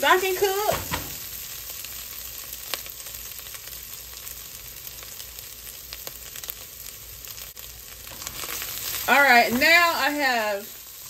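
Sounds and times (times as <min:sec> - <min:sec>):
meat and rice sizzling in pot: 0:00.0 - 0:11.0.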